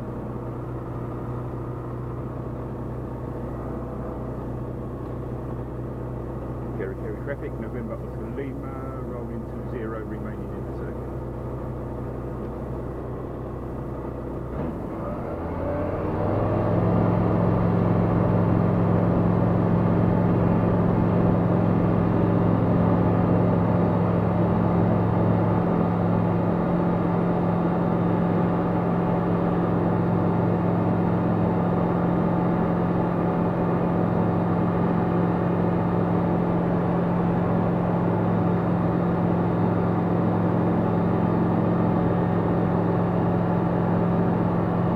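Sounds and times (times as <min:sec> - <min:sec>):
light aircraft engine drone: 0:00.0 - 0:44.9.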